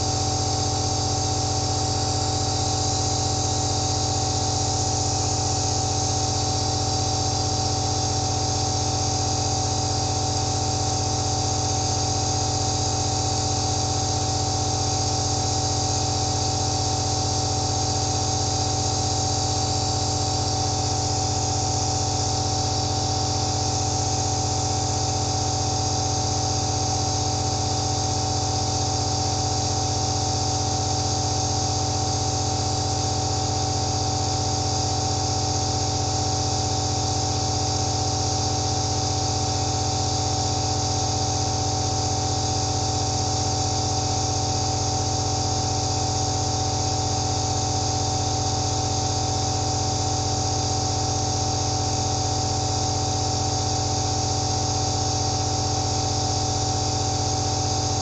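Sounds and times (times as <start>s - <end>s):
nebulizer motor hum: 0.0s - 58.0s.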